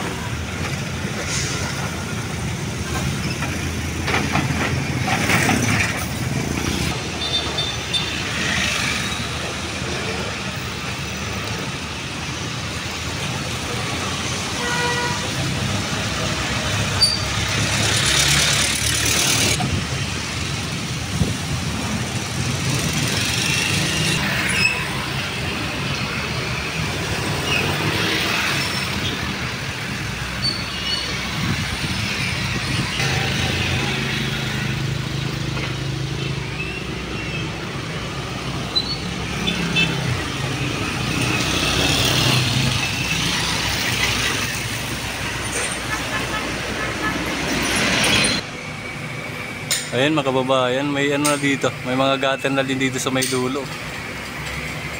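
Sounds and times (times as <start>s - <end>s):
car and truck engines passing: 0.0s - 54.9s.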